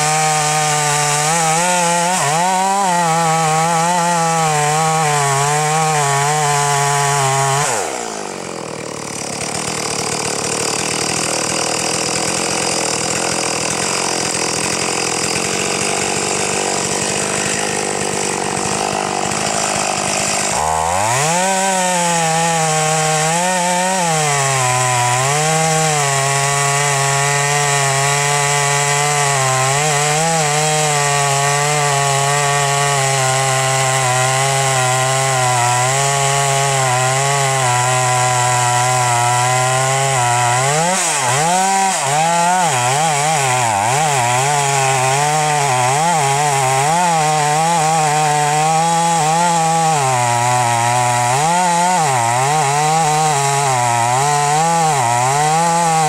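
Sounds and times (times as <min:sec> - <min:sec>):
chainsaw cutting tree: 0:00.0 - 0:56.0.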